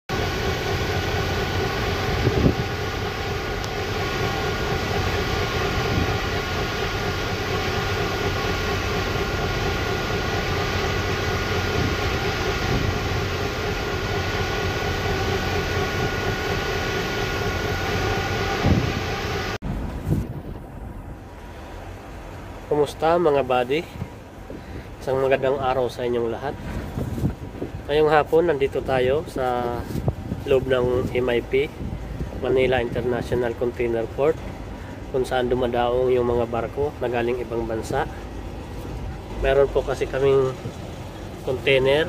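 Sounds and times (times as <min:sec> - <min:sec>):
high whine: 0:00.1 - 0:42.0
machinery drone: 0:00.1 - 0:42.0.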